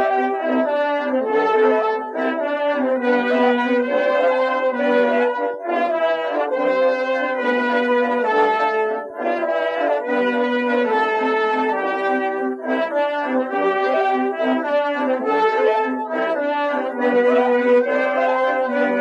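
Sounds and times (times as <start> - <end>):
background music long held notes: 0.0 - 19.0.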